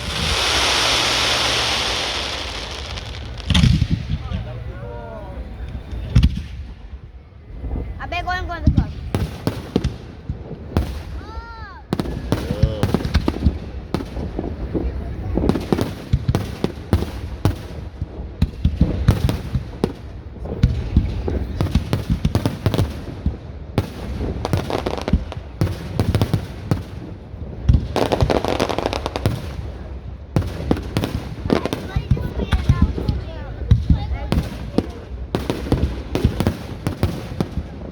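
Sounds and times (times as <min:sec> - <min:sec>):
fireworks booming and banging: 0:00.0 - 0:04.8, 0:05.5 - 0:37.9
fireworks crackling: 0:00.0 - 0:37.9.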